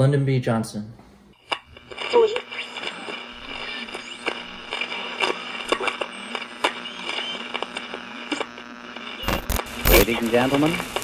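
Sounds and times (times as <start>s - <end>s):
low hum and faint whine: 0.0s - 11.0s
radio static crackle: 1.4s - 11.0s.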